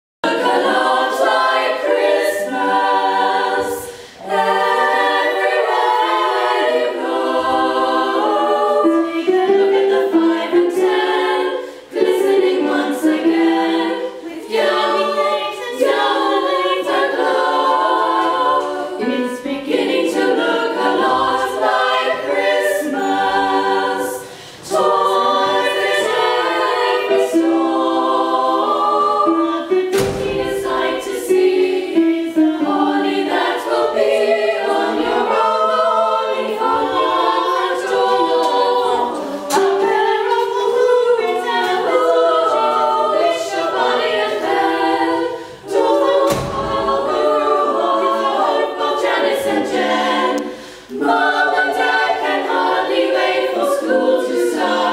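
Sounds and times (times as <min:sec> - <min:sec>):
girls singing in harmony: 0:00.2 - 0:54.9.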